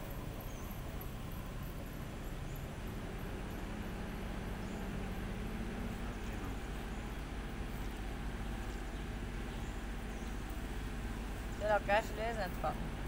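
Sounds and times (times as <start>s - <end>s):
faint steady hum: 0.0s - 13.0s
low outdoor rumble: 0.0s - 13.0s.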